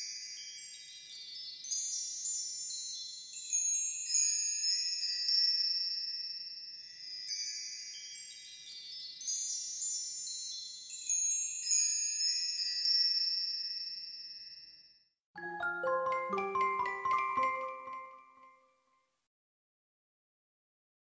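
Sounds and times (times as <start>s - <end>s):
high chimes ringing: 0.0s - 18.9s.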